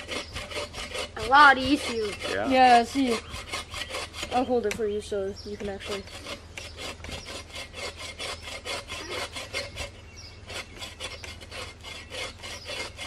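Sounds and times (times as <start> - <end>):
hand saw cutting through log: 0.0 - 13.0.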